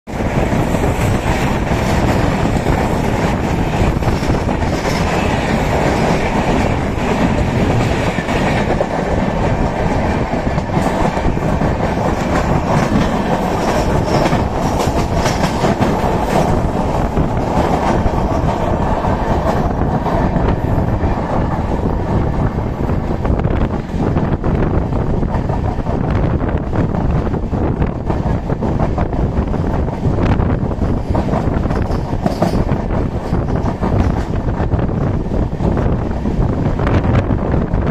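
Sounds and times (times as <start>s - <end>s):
passing train alongside: 0.0s - 37.9s
train wheels clattering over rails: 0.1s - 37.9s.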